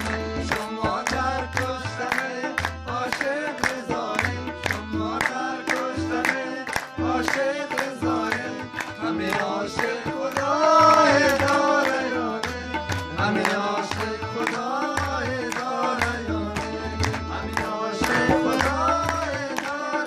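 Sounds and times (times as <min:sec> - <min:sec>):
hands clapping a beat: 0:00.0 - 0:20.0
harmonium: 0:00.0 - 0:20.0
man singing: 0:00.0 - 0:20.0.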